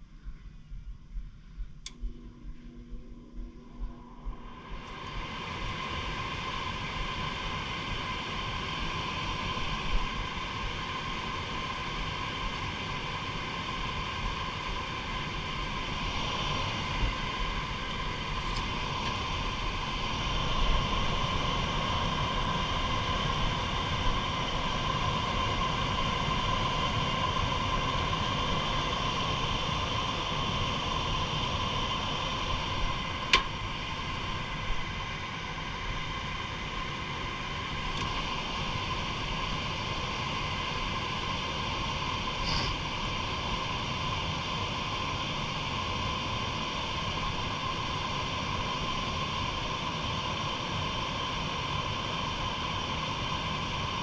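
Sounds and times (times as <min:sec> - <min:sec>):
mechanical drone with whine: 0:00.0 - 0:54.0.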